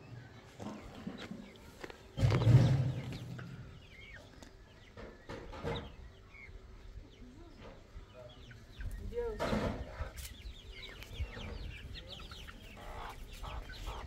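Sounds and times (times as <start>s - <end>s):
chicks peeping: 0.0s - 14.0s
hens clucking: 0.0s - 14.0s.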